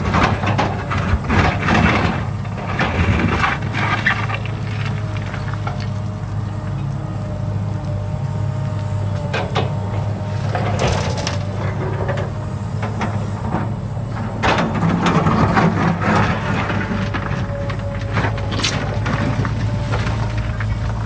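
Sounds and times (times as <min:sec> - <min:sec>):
bucket scraping soil and rock: 0:00.0 - 0:06.5, 0:10.3 - 0:21.0
excavator diesel engine: 0:00.0 - 0:21.0.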